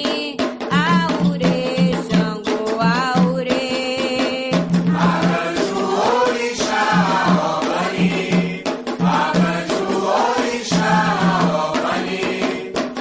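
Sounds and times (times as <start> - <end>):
hand drums beating: 0.0 - 13.0
voices singing together: 0.8 - 13.0.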